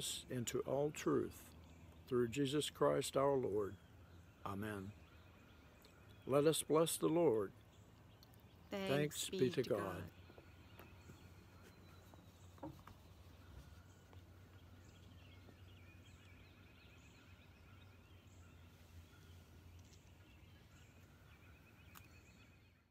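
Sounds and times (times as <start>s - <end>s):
low steady hum: 0.0s - 22.9s
small birds trilling: 0.0s - 22.9s.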